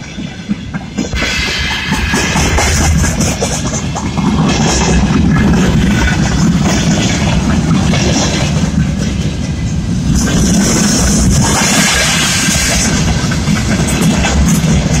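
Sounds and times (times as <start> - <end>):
freight wagons rumbling on rails: 0.0 - 15.0.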